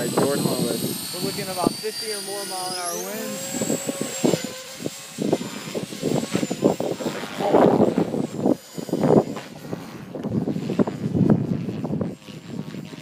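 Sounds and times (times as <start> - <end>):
gusty wind buffeting microphone: 0.0 - 13.0
rc helicopter motor whine: 0.0 - 13.0.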